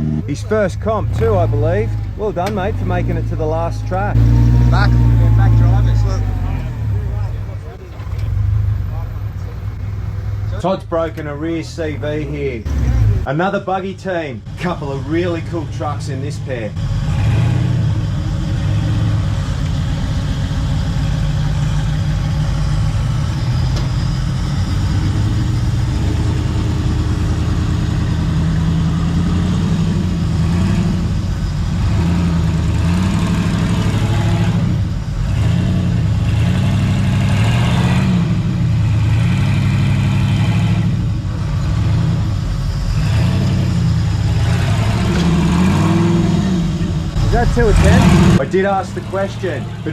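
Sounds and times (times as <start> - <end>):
truck engine revving hard: 0.0 - 13.5, 14.4 - 49.9.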